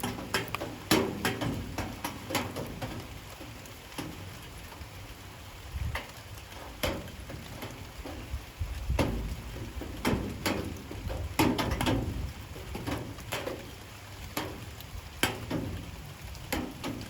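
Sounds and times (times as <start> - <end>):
raindrops tapping hard surface: 0.0 - 17.0.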